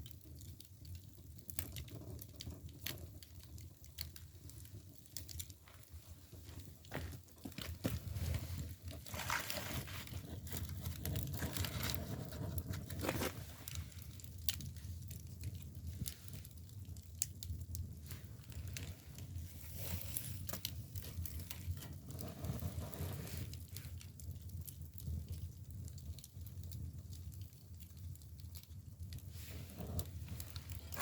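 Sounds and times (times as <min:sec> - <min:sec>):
bamboo firewood crackling: 0:00.0 - 0:31.0
low rumble of fire: 0:00.0 - 0:31.0.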